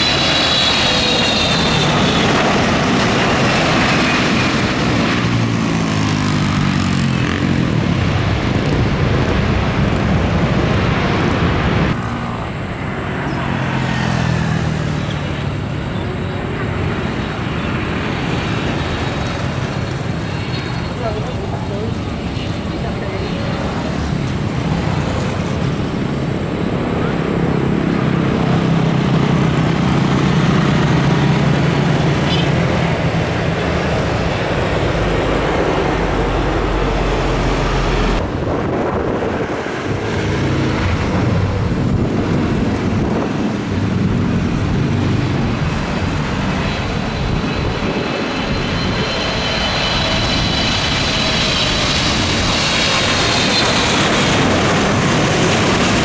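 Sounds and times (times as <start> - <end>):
jet engine noise: 0.0 - 56.0
jet turbofan whine: 0.0 - 56.0
road traffic passing: 0.0 - 56.0.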